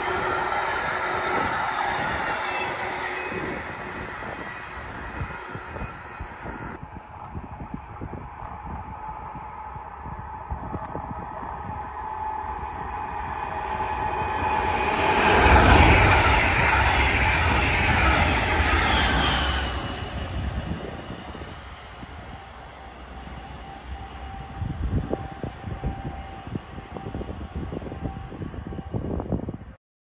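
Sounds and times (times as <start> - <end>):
train wheels on rails: 0.0 - 29.5
train passing: 0.0 - 29.8.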